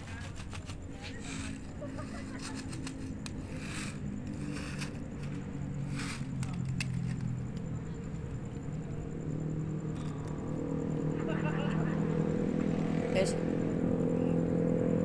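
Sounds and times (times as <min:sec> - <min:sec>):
low engine hum: 0:00.8 - 0:15.0.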